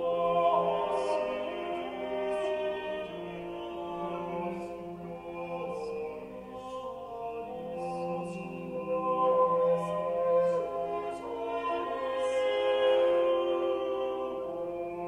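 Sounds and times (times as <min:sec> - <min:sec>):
slow music of long held notes: 0:00.0 - 0:15.0.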